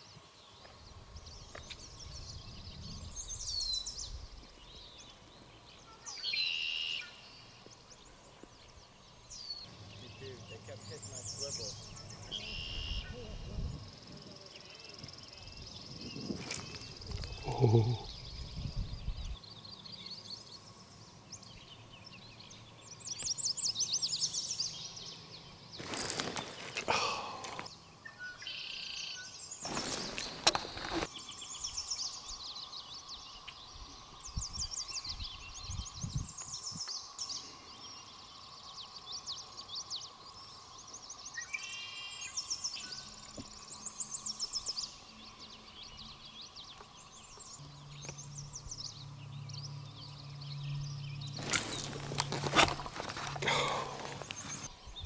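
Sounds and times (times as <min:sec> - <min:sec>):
songbirds trilling: 0:00.0 - 0:55.0.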